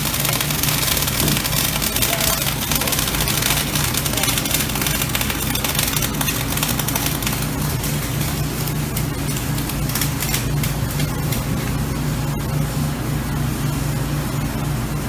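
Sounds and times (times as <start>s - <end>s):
welding crackling hiss: 0.0s - 12.4s
low machinery hum: 0.0s - 15.0s.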